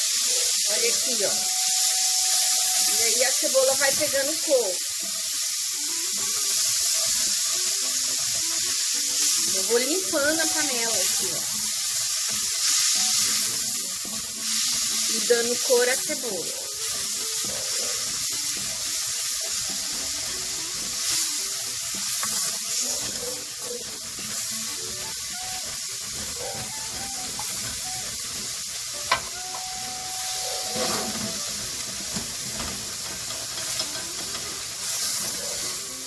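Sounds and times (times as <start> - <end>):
onions and garlic sizzling in a pan: 0.0 - 36.0
water cooking off in a pan: 0.0 - 36.0.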